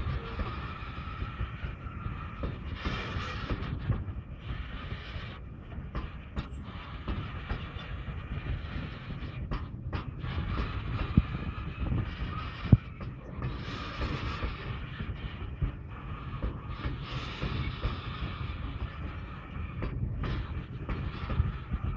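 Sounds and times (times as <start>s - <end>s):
train wheels rumbling on rails: 0.0s - 21.9s
wheels clacking on rails: 0.0s - 21.9s.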